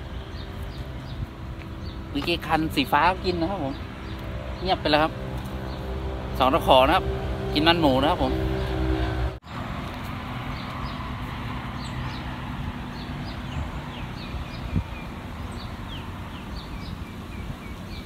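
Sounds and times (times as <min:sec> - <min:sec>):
bird chirping: 0:00.0 - 0:07.0, 0:10.4 - 0:18.0.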